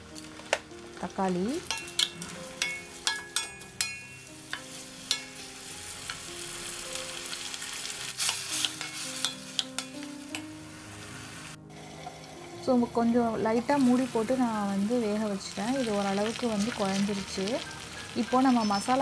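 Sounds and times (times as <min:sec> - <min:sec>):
tomatoes sizzling in oil: 0:00.0 - 0:19.0.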